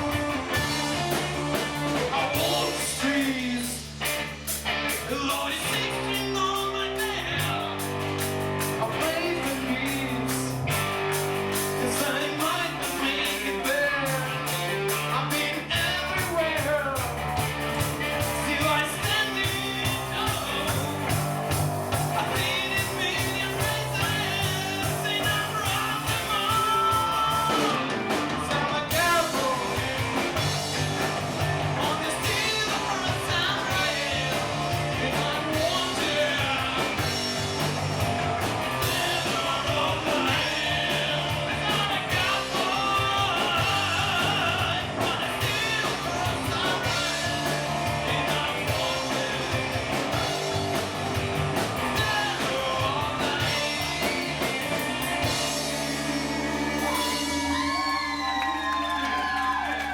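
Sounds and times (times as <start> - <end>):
person singing: 0.0 - 4.1, 4.9 - 7.9, 8.7 - 10.6, 11.7 - 17.2, 18.2 - 21.2, 21.9 - 30.6, 31.7 - 37.4, 38.8 - 50.5, 51.8 - 59.7
steady drum beat: 0.0 - 58.0
bass guitar: 0.0 - 59.9
electric guitar: 0.0 - 59.9.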